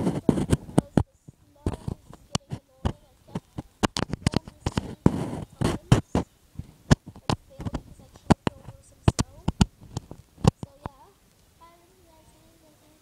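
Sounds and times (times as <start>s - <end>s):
sharp clicks and knocks: 0.0s - 11.4s
rustling: 0.0s - 13.0s.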